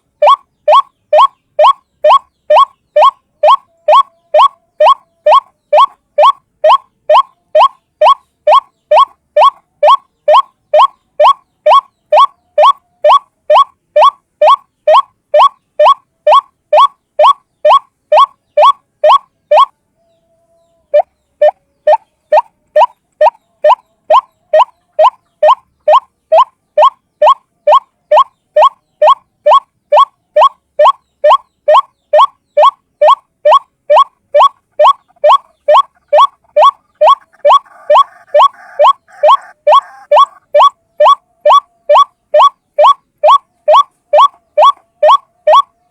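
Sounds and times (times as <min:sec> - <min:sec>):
waterhen calling: 0:00.0 - 0:45.9.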